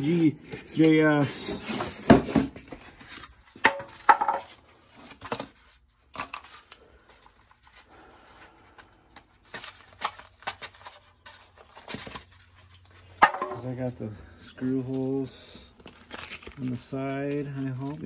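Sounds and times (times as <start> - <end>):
cardboard and paper rustling: 0.0 - 13.9, 14.6 - 18.0.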